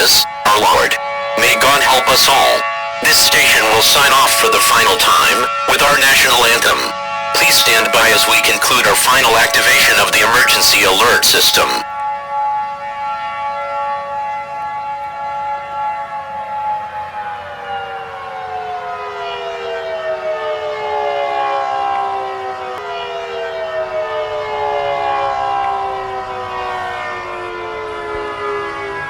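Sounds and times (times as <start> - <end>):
civil defense siren: 0.0 - 29.0.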